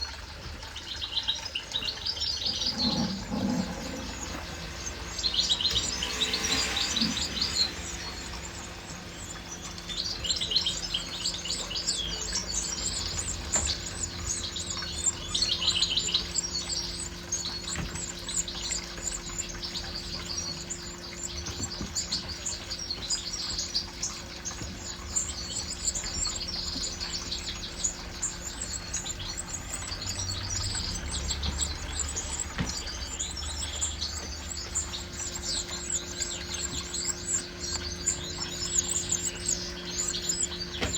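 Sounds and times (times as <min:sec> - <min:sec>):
goldfinches chirping and trilling: 0:00.0 - 0:40.9.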